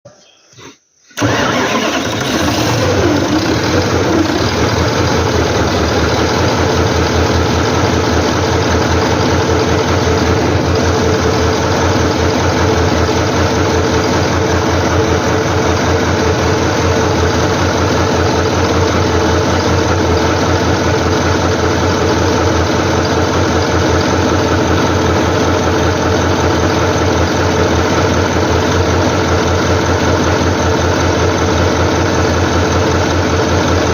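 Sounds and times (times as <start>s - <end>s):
engine running loudly: 1.2s - 33.9s.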